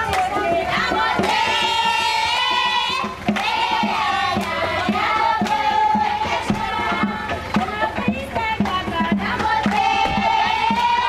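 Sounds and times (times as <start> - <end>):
children singing together: 0.0 - 7.9, 9.1 - 11.0
rhythmic hand clapping: 0.0 - 11.0.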